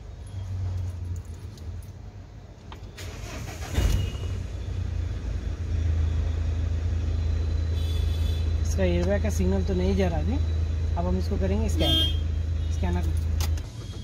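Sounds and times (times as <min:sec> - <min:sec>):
car engine starting and idling: 0:00.2 - 0:14.0.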